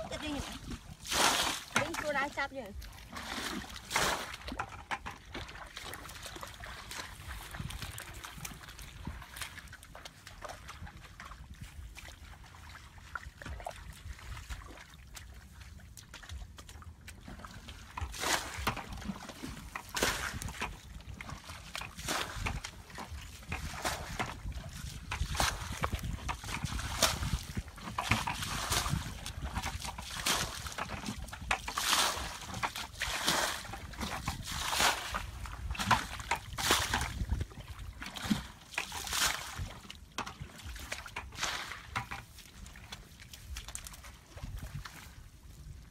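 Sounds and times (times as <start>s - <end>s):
bucket scooping water: 0.0s - 45.9s
footsteps squelching through mud: 0.0s - 45.9s
muddy water sloshing and splashing: 0.0s - 45.9s.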